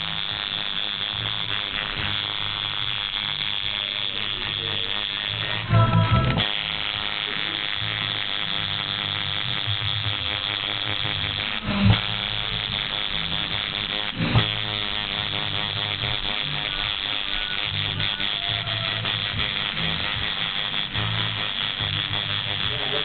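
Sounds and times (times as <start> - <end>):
tattoo machine buzzing: 0.0 - 23.0.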